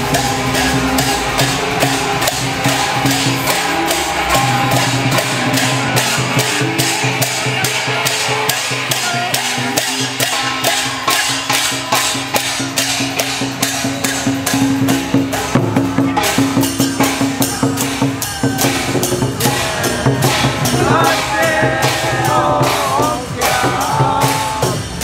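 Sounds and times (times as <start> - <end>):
steady percussion beat: 0.0 - 25.0.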